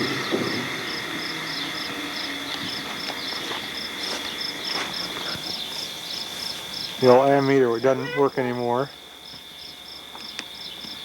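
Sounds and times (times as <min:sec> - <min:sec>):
crickets chirping: 0:00.0 - 0:11.0
high insect hum: 0:00.0 - 0:11.0.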